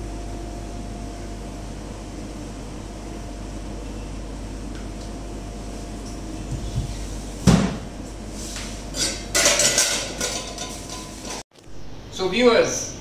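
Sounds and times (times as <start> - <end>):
refrigeration hum: 0.0 - 13.0.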